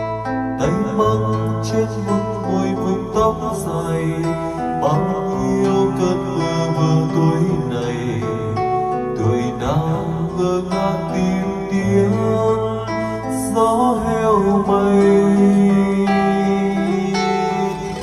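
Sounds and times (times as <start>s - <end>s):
acoustic guitar backing track: 0.0s - 18.0s
man singing into microphone: 0.0s - 18.0s.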